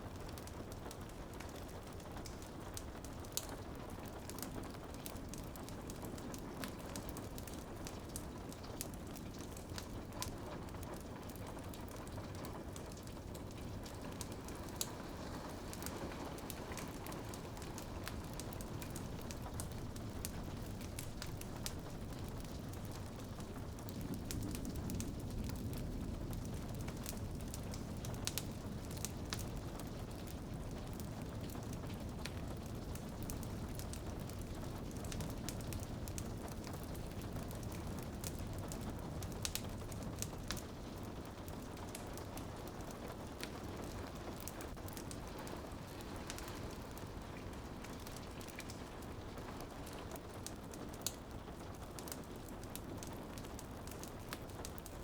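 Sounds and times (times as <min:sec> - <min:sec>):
rain on a window: 0:00.0 - 0:55.0
wood fire crackling: 0:00.0 - 0:55.0.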